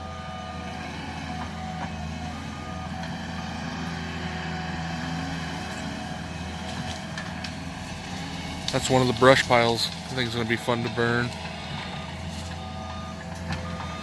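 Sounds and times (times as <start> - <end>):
skid steer engine running: 0.0 - 14.0.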